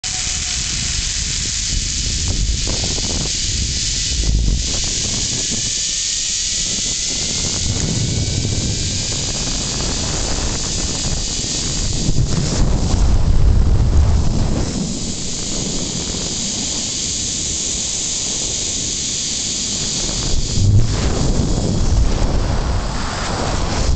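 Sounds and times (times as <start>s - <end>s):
wind buffeting microphone: 0.0s - 23.9s
zipline pulley whine: 0.0s - 23.9s.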